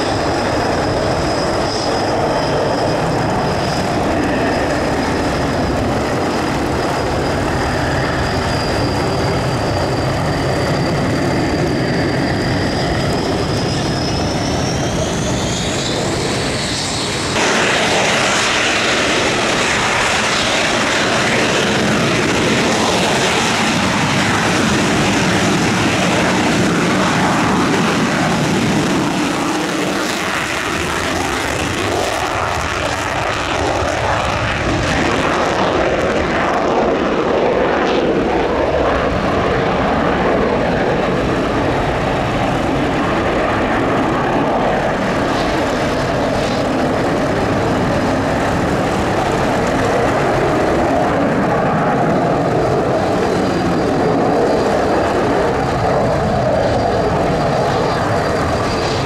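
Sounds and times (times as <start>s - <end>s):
high jet whine: 0.0s - 59.0s
jet engines roaring: 0.0s - 59.0s.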